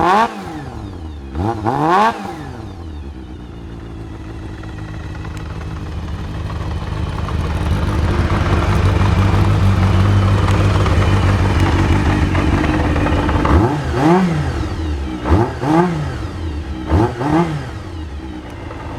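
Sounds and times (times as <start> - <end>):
engine throttle blips: 0.0 - 18.9
motorcycle engine idling: 0.0 - 18.9.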